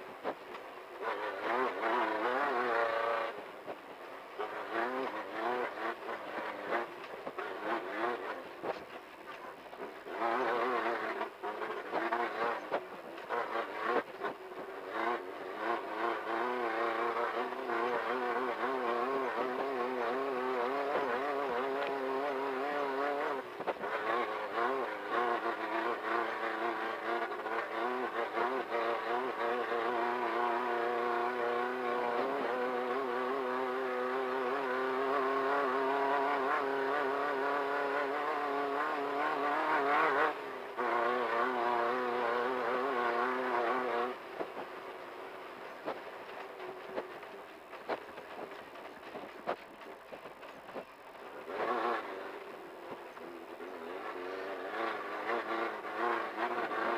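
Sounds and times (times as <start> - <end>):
race car engine running hard: 0.0 - 56.9.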